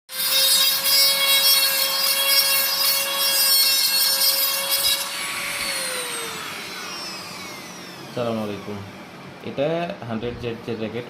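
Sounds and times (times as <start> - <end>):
rotary tool whining: 0.1 - 9.2.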